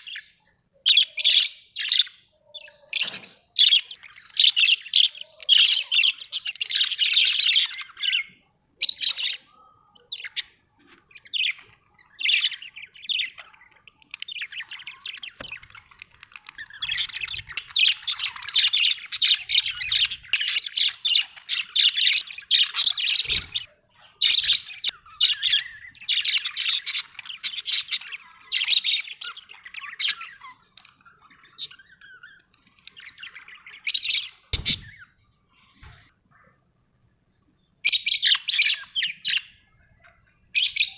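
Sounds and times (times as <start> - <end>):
parrots chirping and squawking: 0.0 - 36.7, 37.8 - 40.9.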